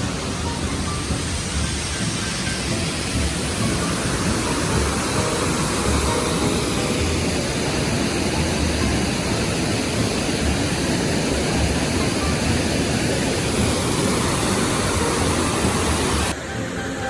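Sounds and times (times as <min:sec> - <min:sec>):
loud rushing noise: 0:00.0 - 0:16.8.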